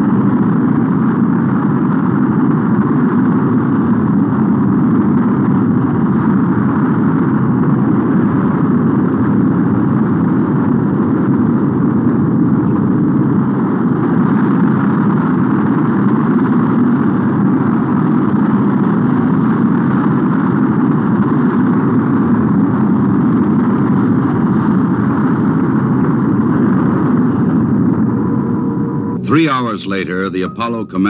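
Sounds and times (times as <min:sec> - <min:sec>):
rocket engine rumble and hiss: 0:00.0 - 0:31.0.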